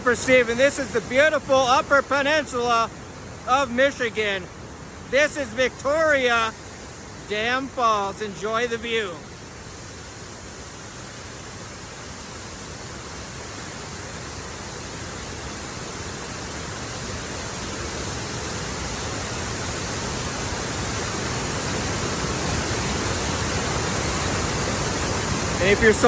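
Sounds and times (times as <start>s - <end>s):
water rushing over spillway: 0.0s - 26.0s.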